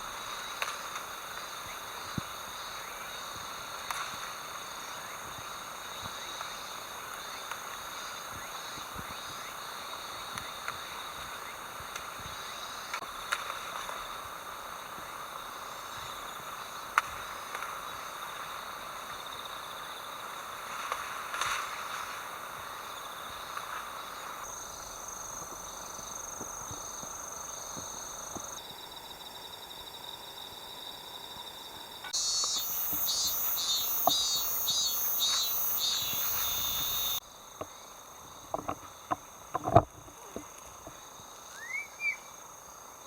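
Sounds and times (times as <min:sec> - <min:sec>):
high insect tone: 0:00.0 - 0:20.8, 0:21.7 - 0:43.0
crickets and insects chirring: 0:00.0 - 0:43.0.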